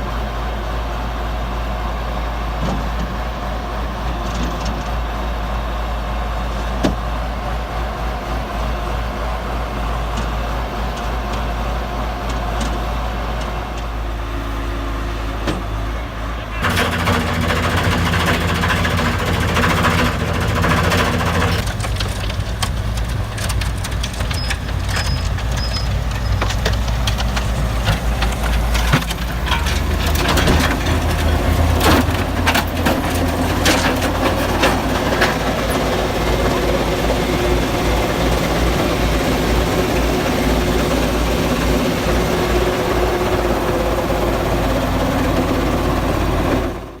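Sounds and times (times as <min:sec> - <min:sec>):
snow blower engine running: 0:04.9 - 0:47.0.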